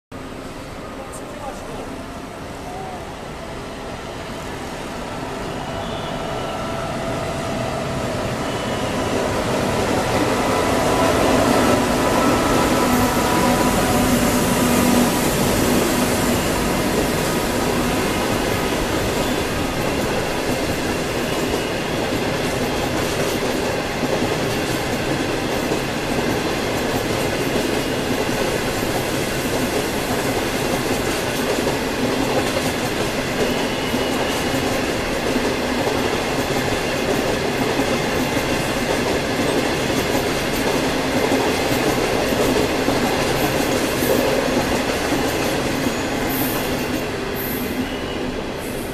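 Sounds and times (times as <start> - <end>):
train wheels rolling on rails: 0.2 - 48.9.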